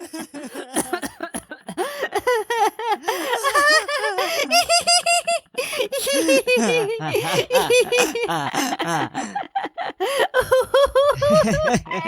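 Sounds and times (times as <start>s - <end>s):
two people laughing: 2.2s - 12.0s.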